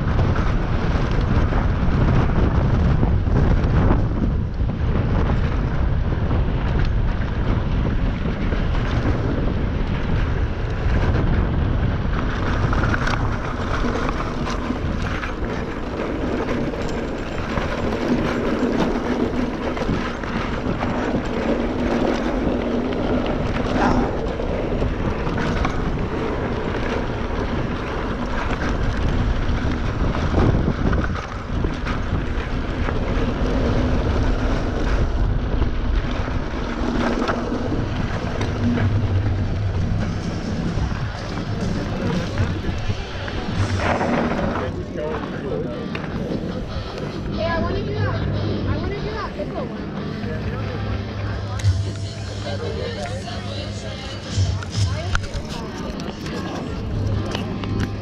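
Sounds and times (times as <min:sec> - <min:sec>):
bike clattering over bumps: 0:00.0 - 0:50.3
tyres rumbling over dirt: 0:00.0 - 0:58.0
wind buffeting microphone: 0:00.0 - 0:58.0.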